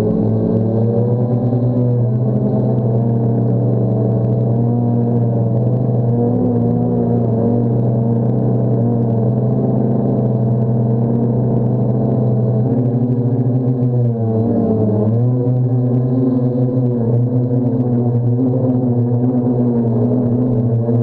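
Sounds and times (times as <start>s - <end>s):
drone propellers humming: 0.0s - 21.0s
wind rumble on microphone: 0.0s - 21.0s.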